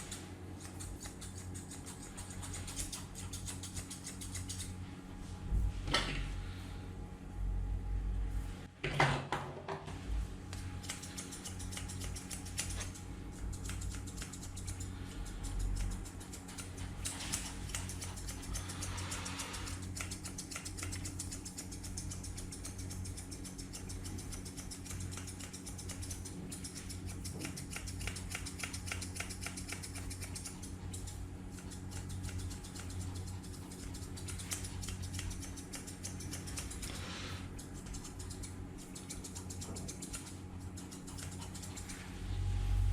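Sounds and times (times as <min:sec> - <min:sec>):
scissors snipping fur: 0:00.0 - 0:04.8, 0:10.5 - 0:42.1
low steady hum: 0:00.0 - 0:42.9.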